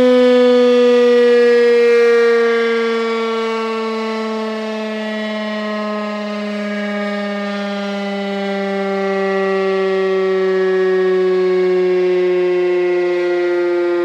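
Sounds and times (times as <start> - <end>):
warning siren continuous tone: 0.0 - 14.0.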